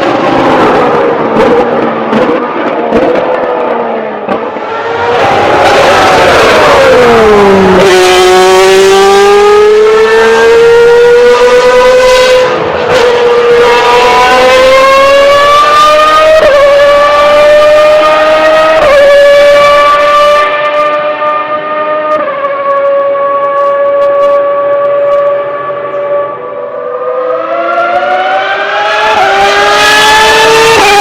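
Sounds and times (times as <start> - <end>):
racing car engine: 0.0 - 31.0.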